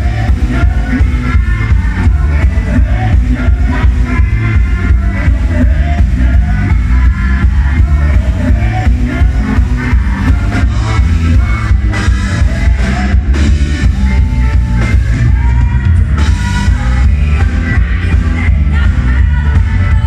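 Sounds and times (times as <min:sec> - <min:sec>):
heavy bass: 0:00.0 - 0:20.0
live rock band playing: 0:00.0 - 0:20.0
steady drum beat: 0:00.0 - 0:20.0.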